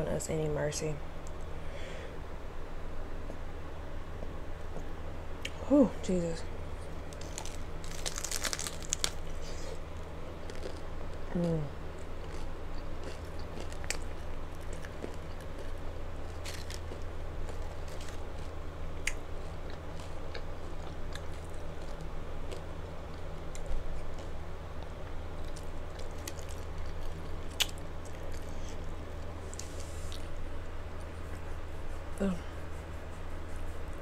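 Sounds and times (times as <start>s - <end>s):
steady low hum: 0.0s - 34.0s
chewing crunchy taco shell: 6.7s - 34.0s.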